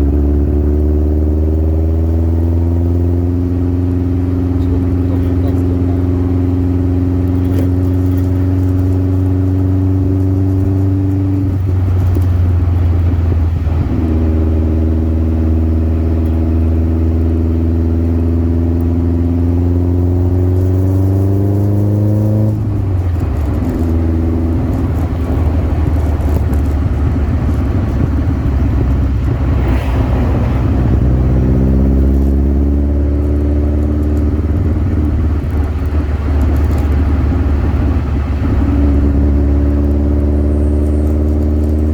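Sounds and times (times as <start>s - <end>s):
sports car engine accelerating: 0.0s - 41.9s.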